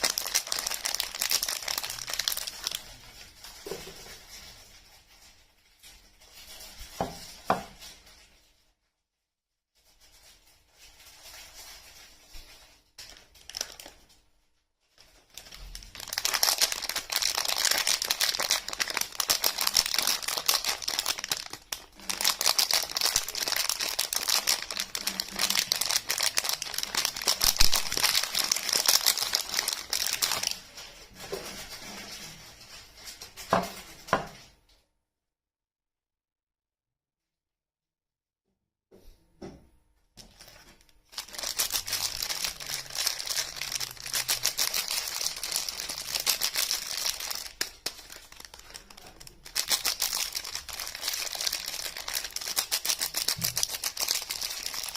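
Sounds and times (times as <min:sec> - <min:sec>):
wrapper crinkling: 0:00.0 - 0:08.7, 0:09.8 - 0:34.5, 0:40.2 - 0:54.9.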